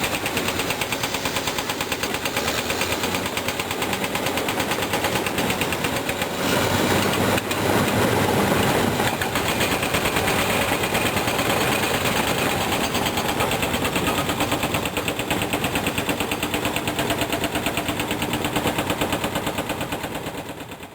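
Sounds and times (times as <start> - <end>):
bulldozer diesel engine clattering: 0.0 - 20.9.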